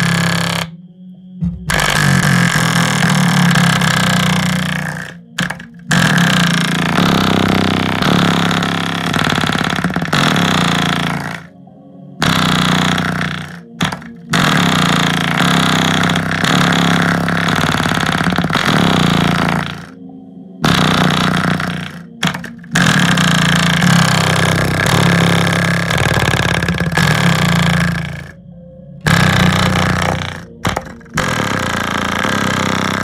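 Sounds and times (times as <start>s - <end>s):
subwoofer playing bass-heavy music: 1.4s - 11.5s, 12.2s - 20.0s, 20.6s - 28.4s, 29.0s - 33.0s.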